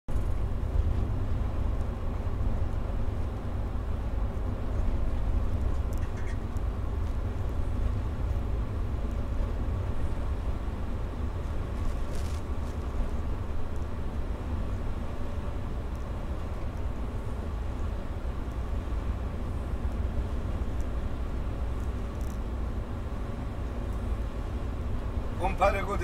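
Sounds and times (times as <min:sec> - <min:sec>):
bus engine and tyres rumbling: 0:00.0 - 0:26.0.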